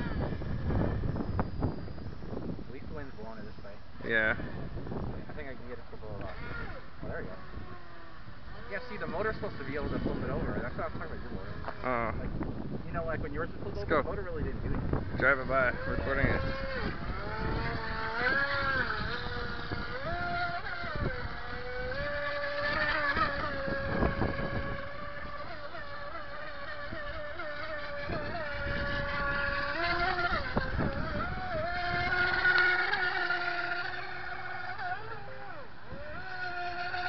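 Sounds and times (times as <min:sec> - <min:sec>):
electric motor whining: 0:00.0 - 0:37.0.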